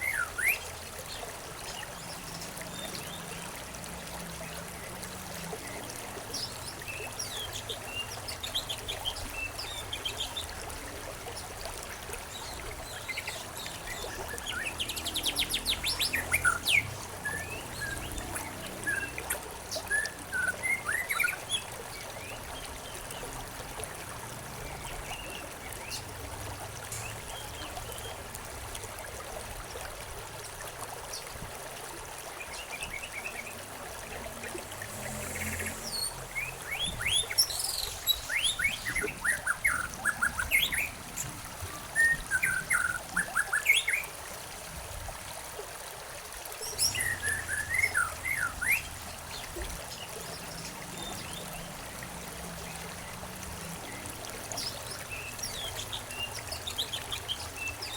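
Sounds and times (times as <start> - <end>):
songbirds chirping: 0.0 - 28.6, 32.3 - 44.1, 46.6 - 57.9
water trickling: 0.0 - 57.9.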